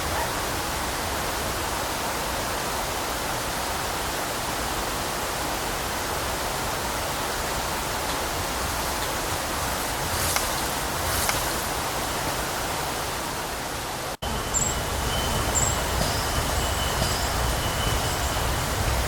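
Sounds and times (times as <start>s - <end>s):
steady field recording hiss: 0.0s - 19.0s.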